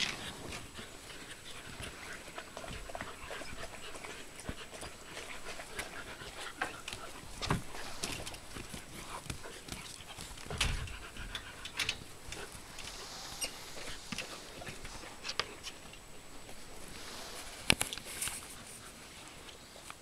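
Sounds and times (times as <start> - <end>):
puppies panting: 0.0 - 20.0
puppies scuffling: 0.0 - 20.0.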